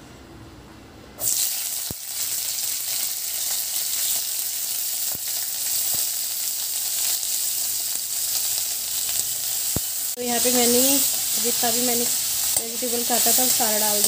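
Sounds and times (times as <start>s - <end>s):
vegetables sizzling in hot oil: 1.2s - 14.0s.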